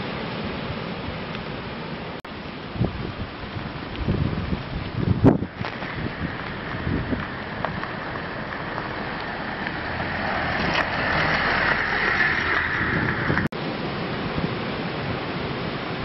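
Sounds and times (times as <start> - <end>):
blizzard wind buffeting microphone: 0.0 - 16.0.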